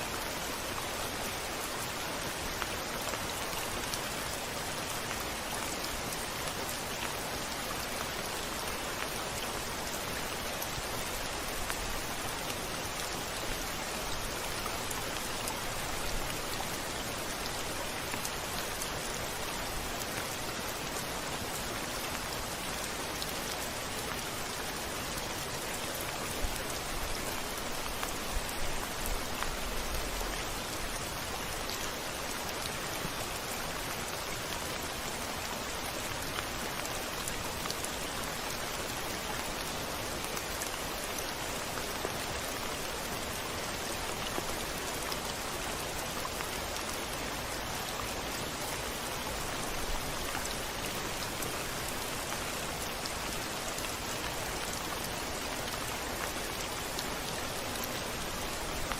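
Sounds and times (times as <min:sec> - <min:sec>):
rain on a window: 0:00.0 - 0:58.9.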